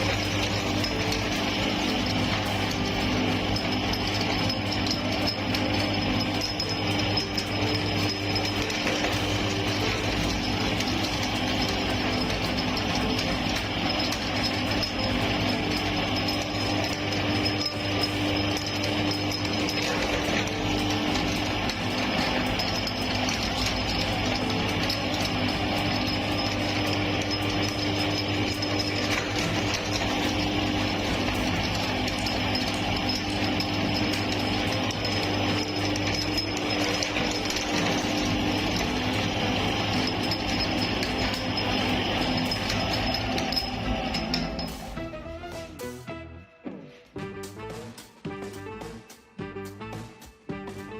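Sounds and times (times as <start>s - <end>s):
candy crunching in grinder: 0.0s - 45.0s
electric meat grinder running: 0.0s - 45.7s.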